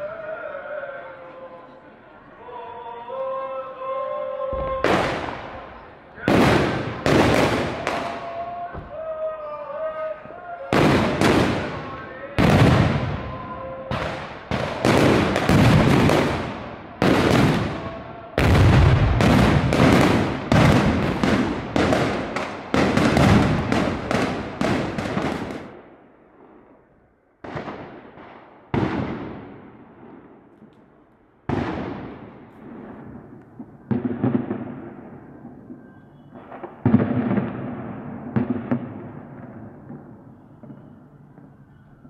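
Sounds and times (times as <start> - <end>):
firecrackers banging: 4.4 - 42.0.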